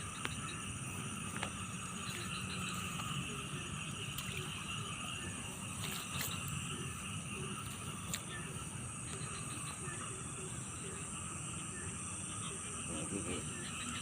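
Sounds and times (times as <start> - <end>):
insects trilling: 0.0 - 14.0
low steady rush: 0.0 - 14.0.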